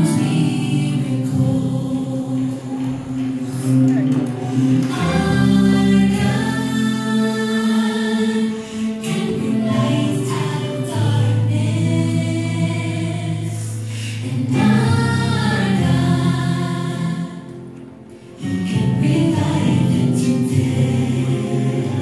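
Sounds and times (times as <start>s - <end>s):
gospel choir singing: 0.0s - 22.0s.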